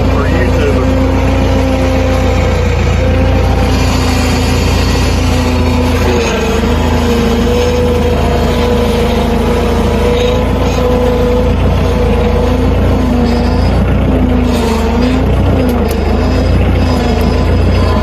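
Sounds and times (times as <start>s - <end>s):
engine running with low rumble: 0.0s - 18.0s.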